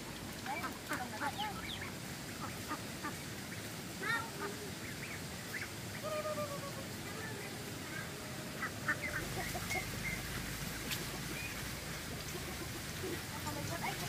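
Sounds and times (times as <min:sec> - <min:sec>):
ducks quacking: 0:00.4 - 0:14.0.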